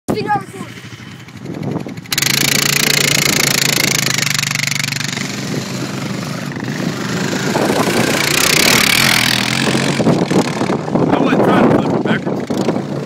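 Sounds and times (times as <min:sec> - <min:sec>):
off-road vehicle engine humming: 0:00.1 - 0:13.0.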